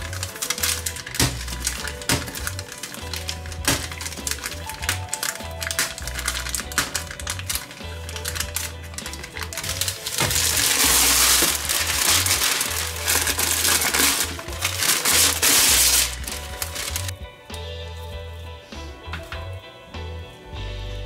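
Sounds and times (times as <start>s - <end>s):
baking paper rustling: 0.0s - 17.1s
foil wrapper crinkling: 0.0s - 17.1s
background music: 0.0s - 21.0s.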